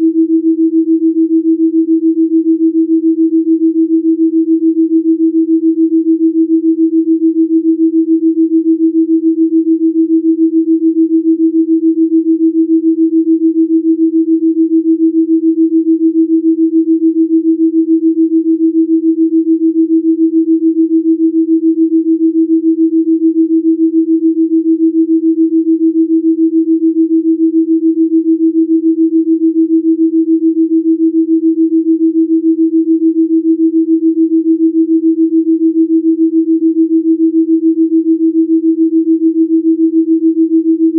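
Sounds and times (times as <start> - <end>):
pulsing sine tone: 0.0 - 40.9.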